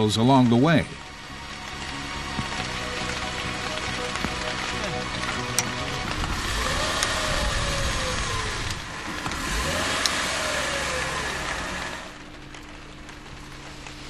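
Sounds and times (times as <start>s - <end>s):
road and tyre noise: 0.0s - 14.0s
car engine note: 0.8s - 12.3s.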